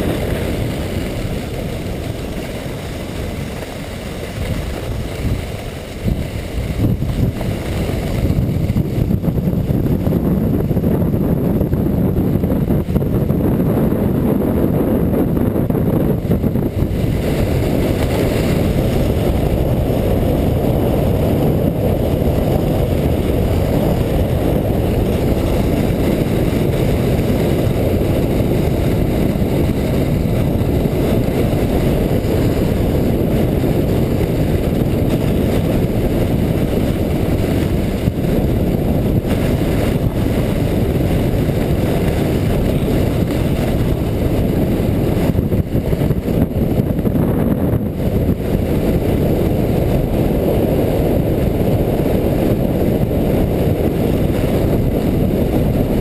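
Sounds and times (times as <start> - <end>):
sled runners rumbling on snow: 0.0 - 56.0
wind on microphone: 0.0 - 56.0.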